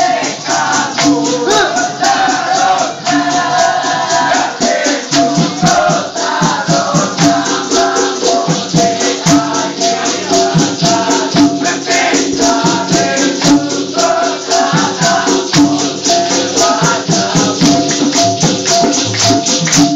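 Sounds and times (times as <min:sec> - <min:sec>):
maracas and hand percussion: 0:00.0 - 0:19.9
voices singing: 0:00.0 - 0:19.9.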